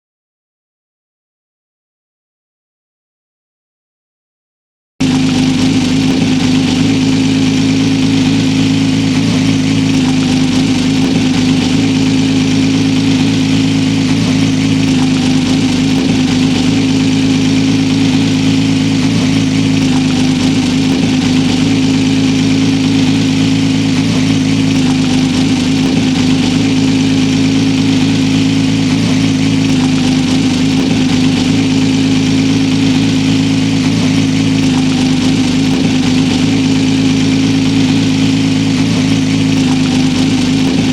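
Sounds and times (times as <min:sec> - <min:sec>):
motorcycle engine idling: 0:05.0 - 0:40.9.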